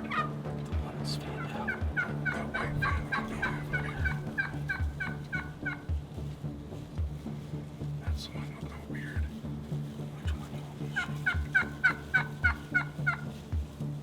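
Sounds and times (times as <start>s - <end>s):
turkeys gobbling: 0.0s - 0.4s, 1.3s - 6.4s, 8.1s - 13.8s
background music with steady beat: 0.0s - 14.0s.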